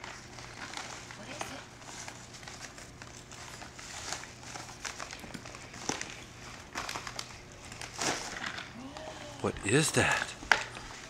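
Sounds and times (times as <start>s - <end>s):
wrapping paper crinkling and tearing: 0.0s - 11.0s.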